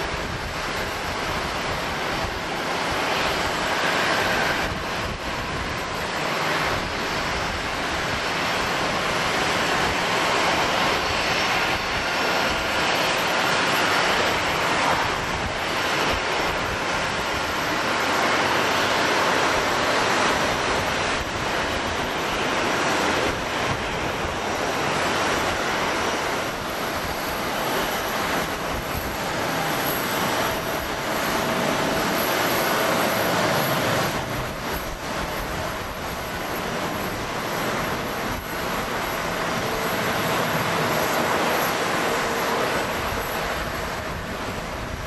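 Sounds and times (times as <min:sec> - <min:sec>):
jet engines rushing: 0:00.0 - 0:45.0.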